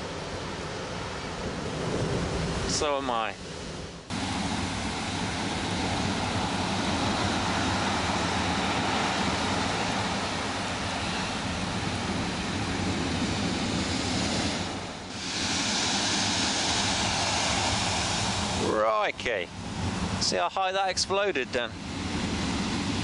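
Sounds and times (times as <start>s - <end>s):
storm waves breaking: 0.0s - 23.0s.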